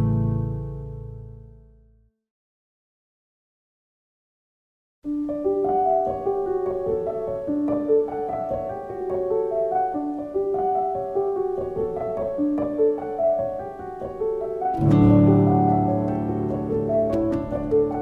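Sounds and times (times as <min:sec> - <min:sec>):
slow piano music: 0:00.0 - 0:02.0, 0:05.0 - 0:18.0.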